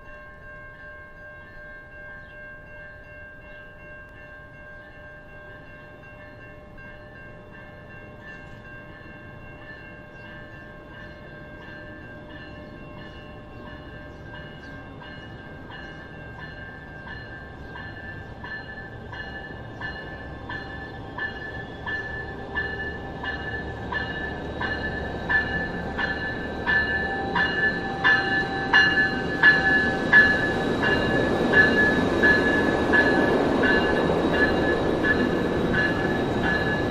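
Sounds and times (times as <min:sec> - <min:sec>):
locomotive electronic bell ringing: 0:00.0 - 0:36.9
steady ringing tones: 0:00.0 - 0:36.9
locomotive and wheels rumbling: 0:00.4 - 0:36.9.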